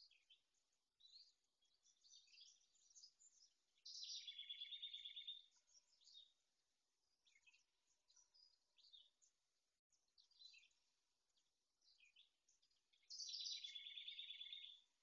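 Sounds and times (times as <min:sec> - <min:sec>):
songbirds singing and chirping: 0:00.0 - 0:15.0.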